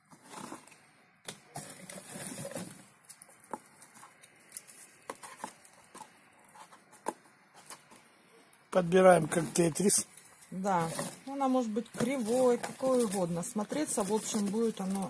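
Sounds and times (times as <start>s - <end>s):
dry bark rustling and crackling: 0.0s - 8.1s, 8.8s - 15.0s.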